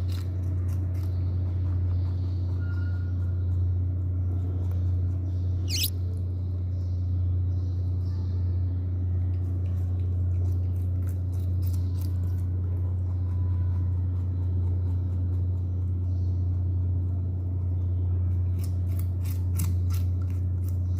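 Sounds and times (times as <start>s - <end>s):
rabbit chewing cucumber: 0.0s - 20.9s.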